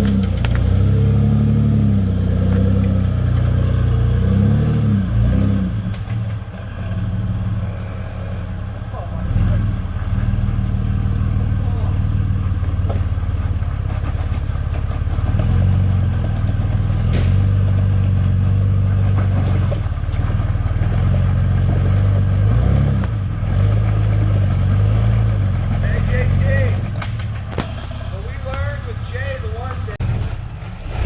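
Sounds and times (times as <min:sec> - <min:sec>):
car engine revving under load: 0:00.0 - 0:31.0.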